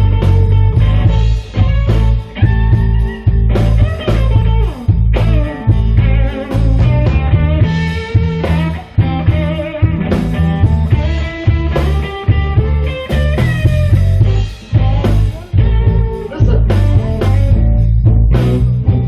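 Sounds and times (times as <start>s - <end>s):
bass: 0.0s - 19.0s
drums: 0.0s - 19.0s
guitar lead: 0.0s - 19.0s.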